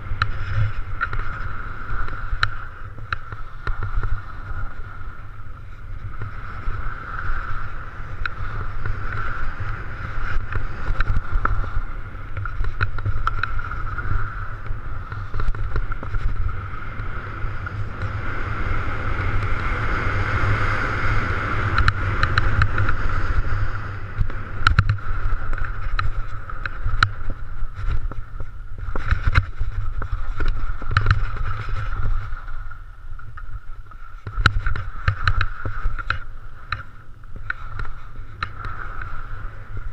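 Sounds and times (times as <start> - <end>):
sharp ski ticks: 0.0 - 39.9
wind buffeting microphone: 0.0 - 39.9.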